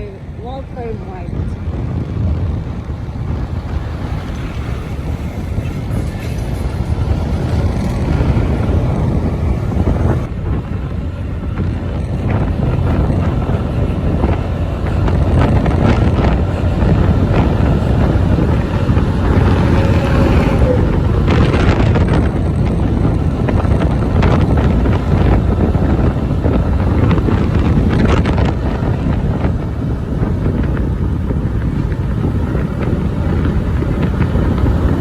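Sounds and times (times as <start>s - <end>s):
road noise: 0.0s - 35.0s
wind rushing over microphone: 0.0s - 35.0s
scooter engine: 1.6s - 35.0s.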